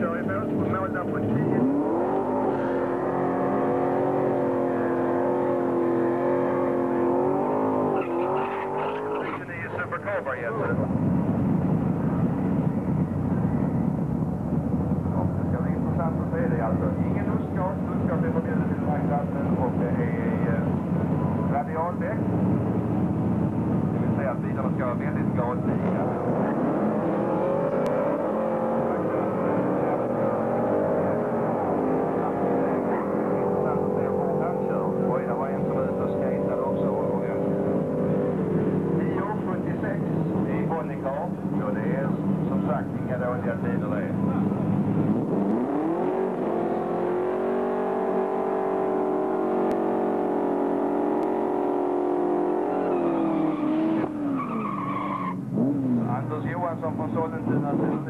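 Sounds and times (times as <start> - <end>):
drag racing car engine revving: 0.0 - 58.0.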